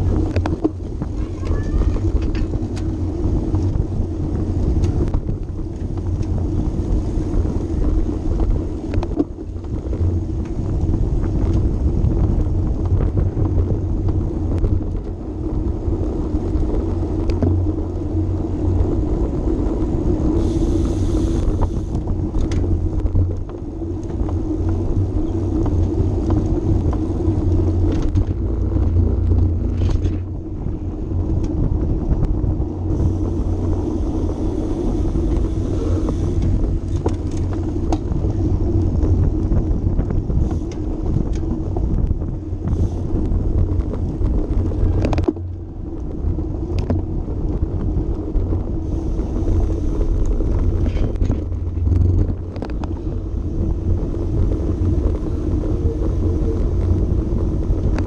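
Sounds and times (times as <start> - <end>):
bike tyre rumble: 0.0 - 58.0
wind buffeting microphone: 0.0 - 58.0.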